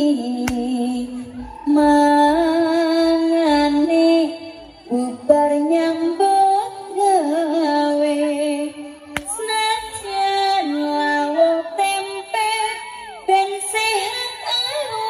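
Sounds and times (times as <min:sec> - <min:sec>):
woman singing slow melody: 0:00.0 - 0:15.0.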